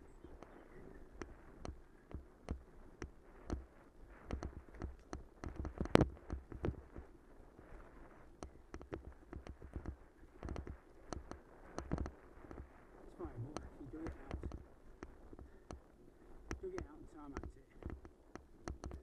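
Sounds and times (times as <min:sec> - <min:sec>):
bicycle rattling on rough path: 0:00.0 - 0:19.0.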